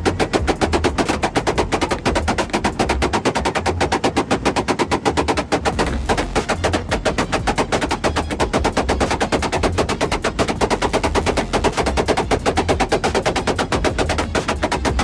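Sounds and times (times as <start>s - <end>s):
car exhaust crackling bangs: 0.0s - 15.0s.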